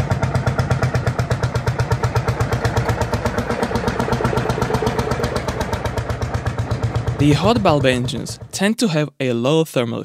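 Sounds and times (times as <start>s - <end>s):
tractor engine thumping: 0.0s - 8.7s.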